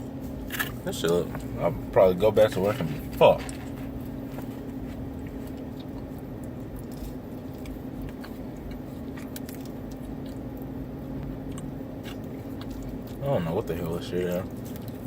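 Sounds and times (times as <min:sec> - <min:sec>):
low hum inside car: 0:00.0 - 0:15.0
person eating and handling food: 0:00.0 - 0:15.0.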